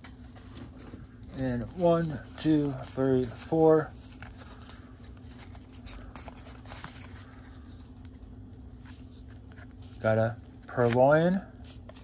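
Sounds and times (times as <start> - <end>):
steady low hum: 0.0 - 12.0
cards rustling in hands: 0.2 - 12.0.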